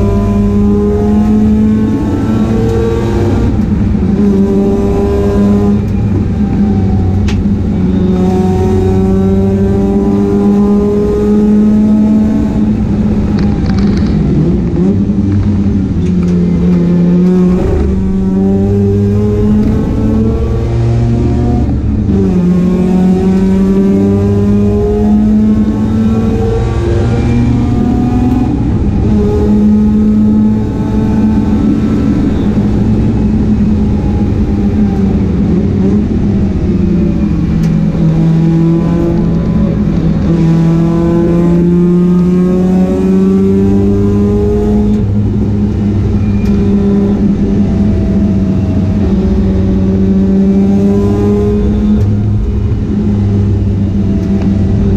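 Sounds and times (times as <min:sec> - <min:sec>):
race car engine accelerating: 0:00.0 - 0:54.9.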